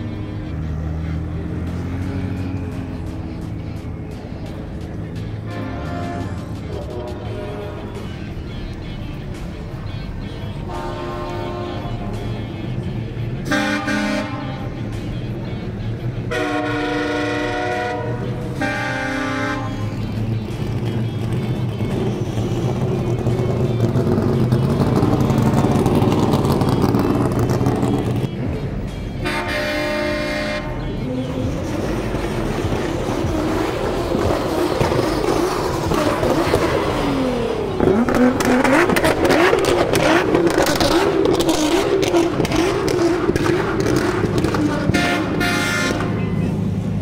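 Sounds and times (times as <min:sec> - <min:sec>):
vehicle engines revving: 0:00.0 - 0:47.0
long horn blast: 0:05.4 - 0:08.1, 0:10.6 - 0:46.6.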